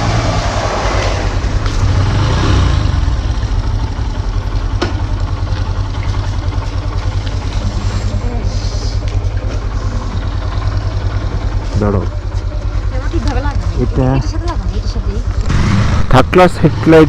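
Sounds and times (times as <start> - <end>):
motorcycle engine idling: 1.2 - 17.0.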